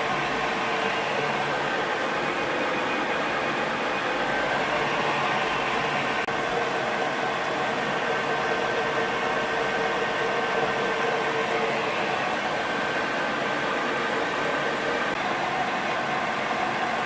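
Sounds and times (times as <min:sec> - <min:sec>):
lathe humming and whining: 0:00.0 - 0:17.0
noisy hiss: 0:00.0 - 0:17.0.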